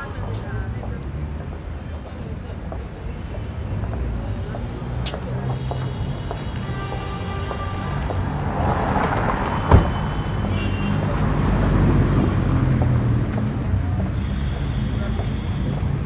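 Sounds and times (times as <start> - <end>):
vehicle low rumble: 0.2 - 16.0.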